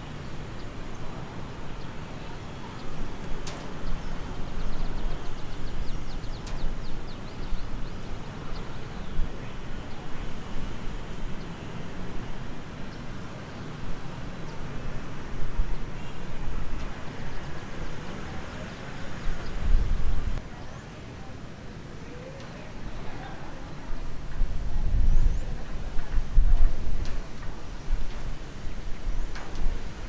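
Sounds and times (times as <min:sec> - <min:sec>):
outdoor rumbling: 0:00.0 - 0:30.0.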